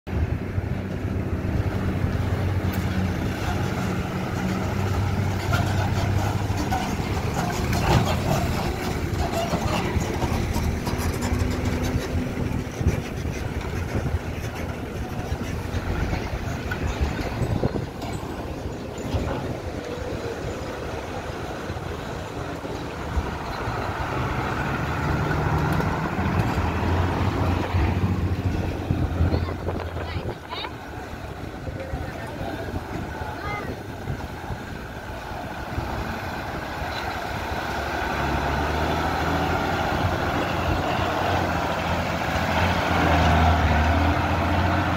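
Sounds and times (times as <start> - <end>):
diesel engines humming: 0.1 - 44.9.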